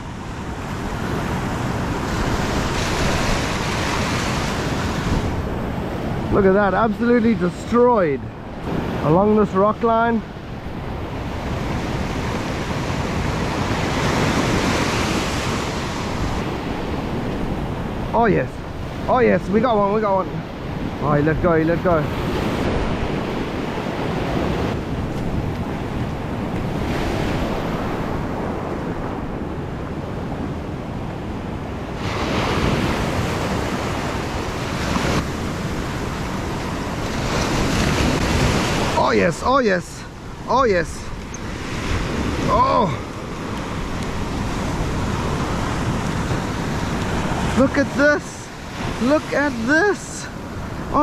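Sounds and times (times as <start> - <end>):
ocean surf breaking: 0.0 - 51.0
wind buffeting microphone: 0.0 - 51.0.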